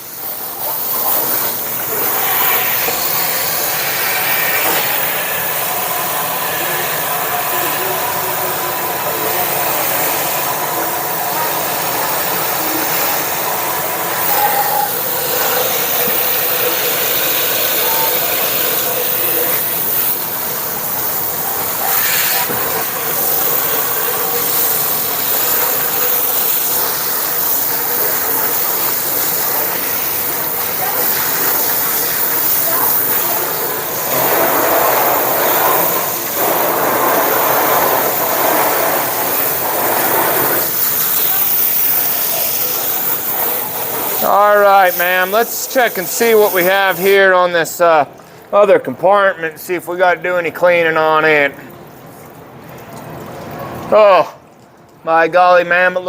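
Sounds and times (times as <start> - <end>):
water spraying on metal: 0.0 - 48.4, 49.3 - 56.0.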